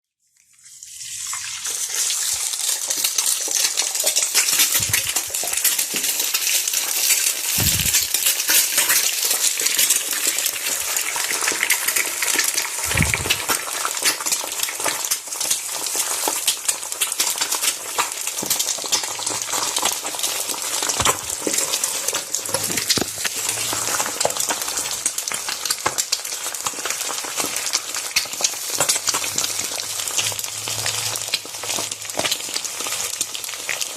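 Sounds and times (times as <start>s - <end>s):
egg sizzling in hot oil: 0.3s - 33.9s.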